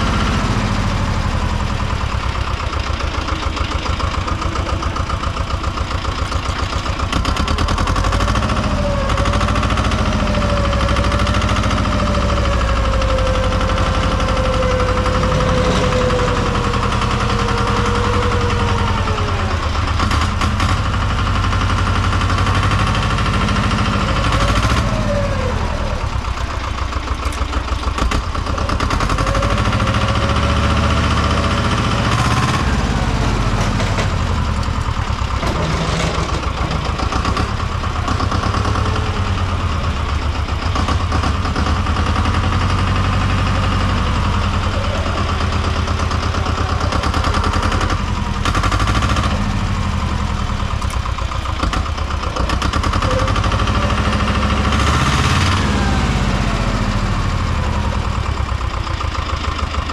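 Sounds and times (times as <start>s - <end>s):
small tractor engine running: 0.0s - 59.9s.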